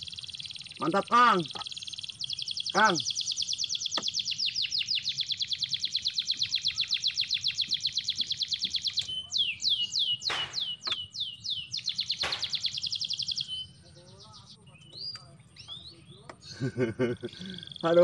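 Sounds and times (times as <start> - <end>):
bird chirping rapidly: 0.0 - 18.0.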